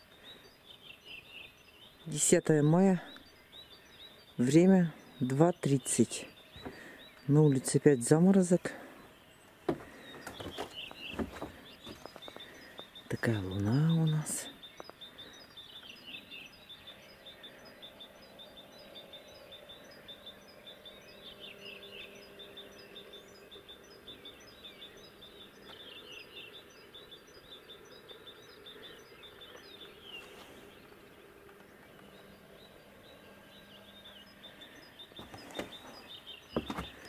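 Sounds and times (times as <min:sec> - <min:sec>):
birds chirping and singing: 0:00.0 - 0:37.0
steady low hum: 0:06.1 - 0:37.0.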